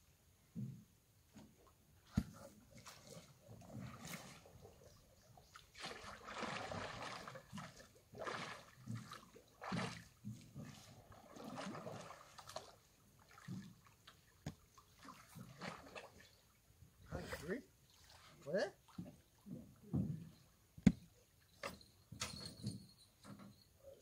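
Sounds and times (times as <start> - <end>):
oar splashing in water: 1.4 - 21.8.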